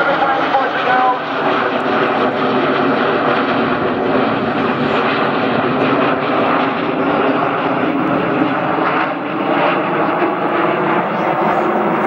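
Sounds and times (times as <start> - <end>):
jets flying overhead: 0.0 - 12.0.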